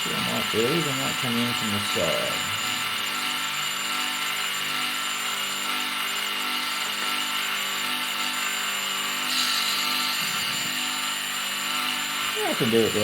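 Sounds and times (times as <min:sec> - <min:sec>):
milling machine whine: 0:00.0 - 0:13.0
rotary cutter on metal: 0:00.0 - 0:13.0.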